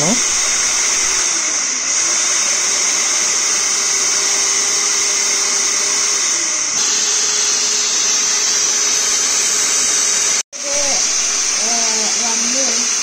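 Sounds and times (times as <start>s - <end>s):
electric hand mixer whisking: 0.0s - 13.0s.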